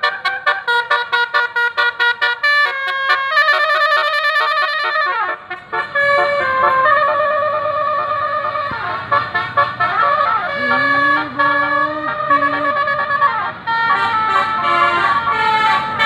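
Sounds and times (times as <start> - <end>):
multi-tone bus horn melody: 0.0 - 16.0.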